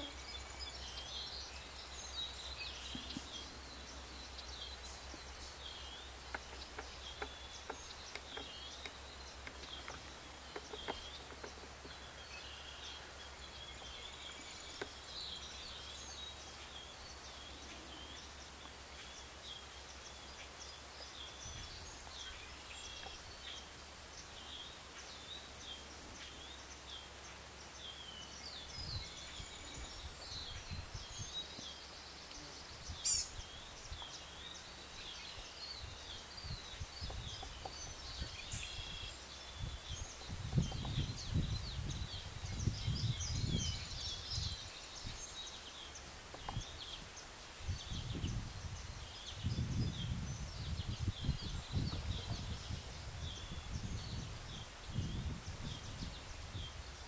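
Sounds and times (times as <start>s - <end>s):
small birds chirping: 0.0s - 57.0s
steady high hiss: 0.0s - 57.0s.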